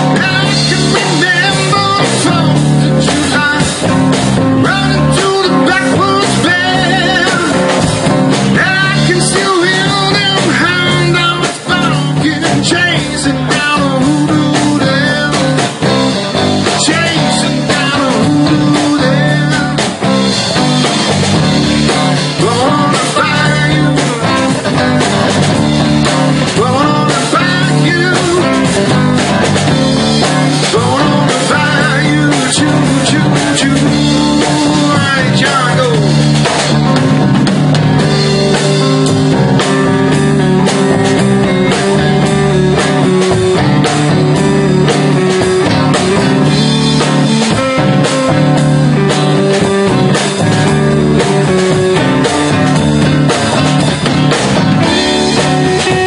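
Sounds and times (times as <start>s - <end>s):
electric guitar melodic line bending: 0.0s - 56.0s
live rock band playing: 0.0s - 56.0s.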